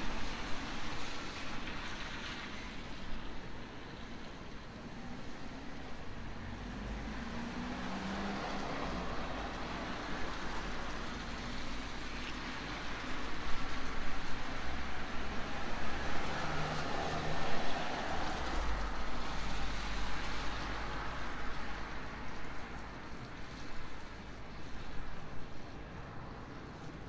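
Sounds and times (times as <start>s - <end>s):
distant city traffic rush: 0.0s - 27.0s.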